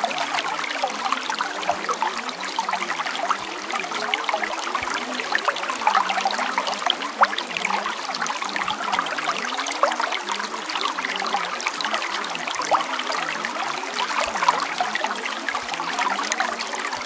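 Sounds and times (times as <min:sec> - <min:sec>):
water trickling and bubbling: 0:00.0 - 0:17.0.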